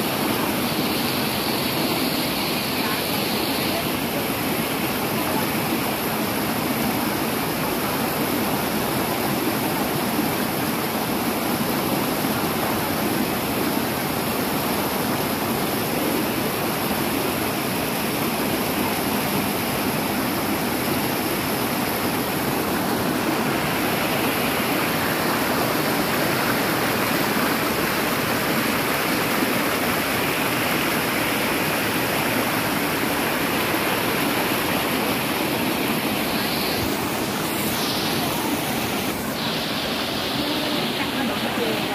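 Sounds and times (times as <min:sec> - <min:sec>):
stream rushing over boulders: 0:00.0 - 0:41.9.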